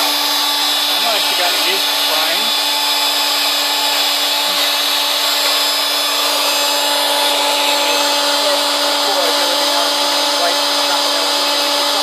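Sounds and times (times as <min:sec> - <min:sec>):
bit cutting plywood: 0:00.0 - 0:12.0
router spindle whine: 0:00.0 - 0:12.0.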